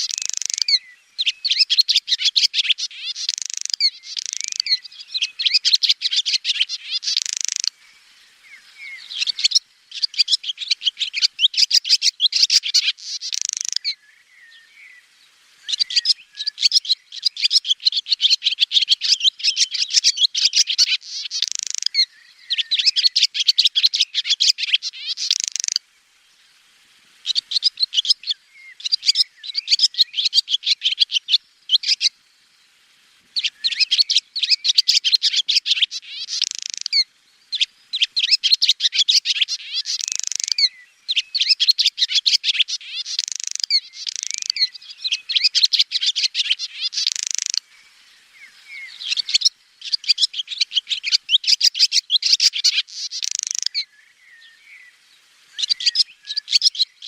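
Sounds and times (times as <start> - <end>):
swallow twittering song: 0.0 - 57.0.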